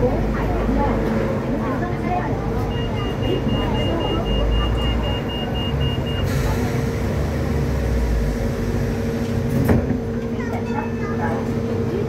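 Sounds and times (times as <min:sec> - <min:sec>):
tram electric hum and rumble: 0:00.0 - 0:12.0.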